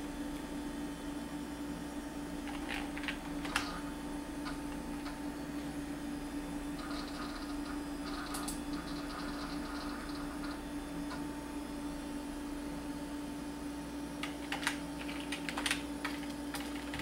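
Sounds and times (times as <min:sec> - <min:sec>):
computer humming: 0:00.0 - 0:17.0.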